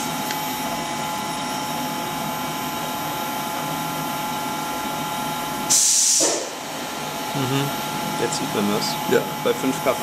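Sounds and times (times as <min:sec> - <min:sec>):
machinery hum with hiss: 0:00.0 - 0:10.0.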